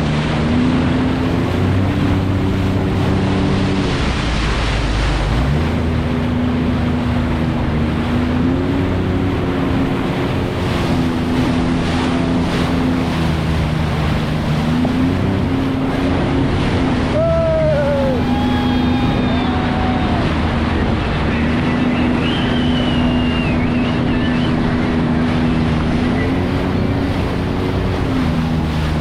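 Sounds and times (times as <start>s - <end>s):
jet ski engine running: 0.0s - 29.0s
water rushing: 0.0s - 29.0s
wind on microphone: 0.0s - 29.0s.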